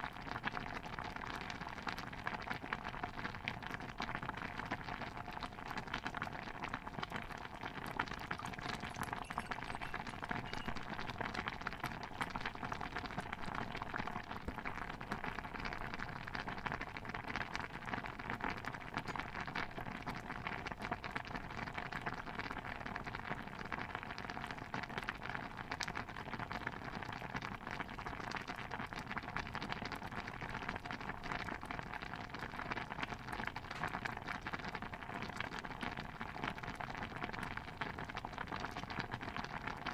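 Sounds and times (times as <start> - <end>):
stew bubbling in a pot: 0.0 - 39.9.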